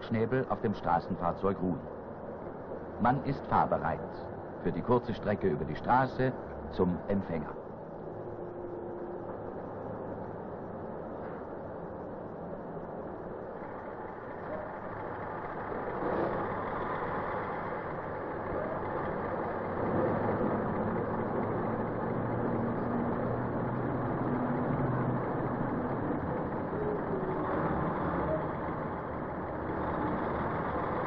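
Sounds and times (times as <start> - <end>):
heavy tractor engine running: 0.0 - 31.0.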